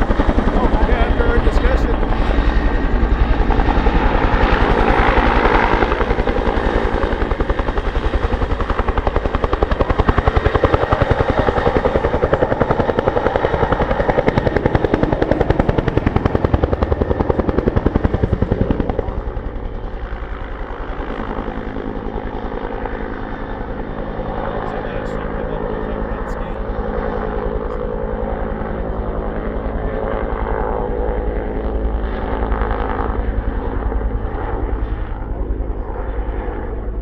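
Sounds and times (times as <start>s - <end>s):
helicopter rotor beating: 0.0s - 37.0s.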